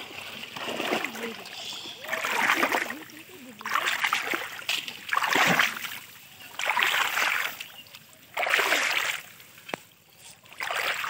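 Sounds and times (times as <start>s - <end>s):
splashing in shallow water: 0.0s - 11.0s.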